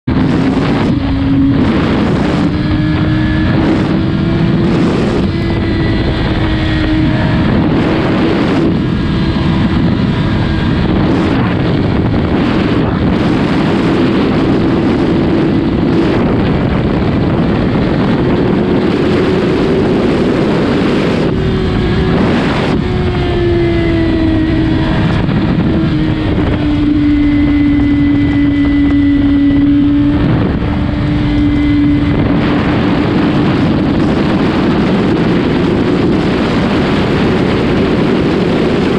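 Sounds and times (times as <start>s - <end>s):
motorcycle engine cruising: 0.0s - 38.9s
wind gusts on microphone: 0.0s - 38.9s.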